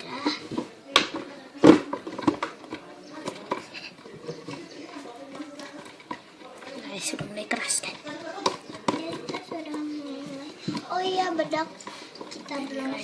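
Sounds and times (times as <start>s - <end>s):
stirrer clicking and knocking: 0.0s - 13.0s.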